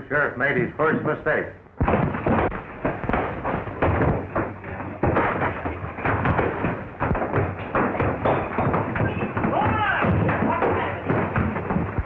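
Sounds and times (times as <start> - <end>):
noisy din: 0.0 - 12.0
punches and thuds: 1.8 - 12.0.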